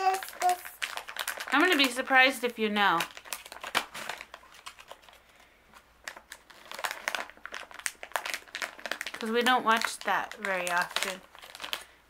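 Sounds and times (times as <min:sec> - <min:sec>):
foil packet crinkling: 0:00.0 - 0:12.0.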